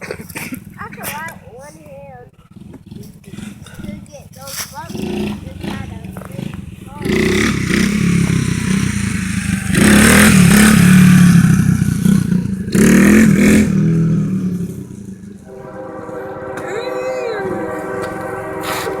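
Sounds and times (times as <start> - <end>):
dirt bike engine revving: 0.6 - 16.8.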